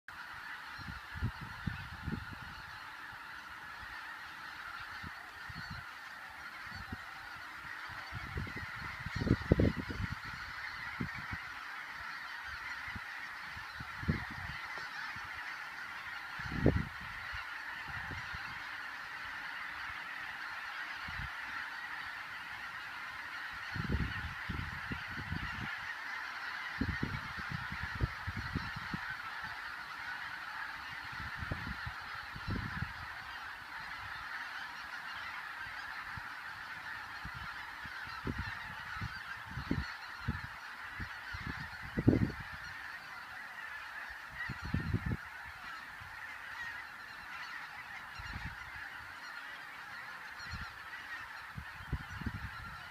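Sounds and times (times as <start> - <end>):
geese honking: 0.1 - 52.9.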